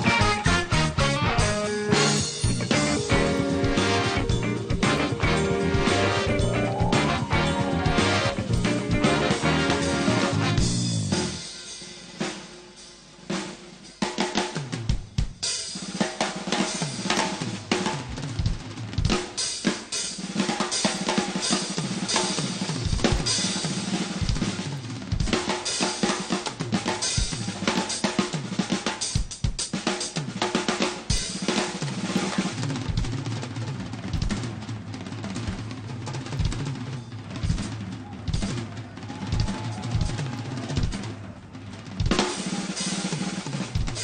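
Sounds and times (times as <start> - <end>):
jazz drum solo: 0.0 - 44.0.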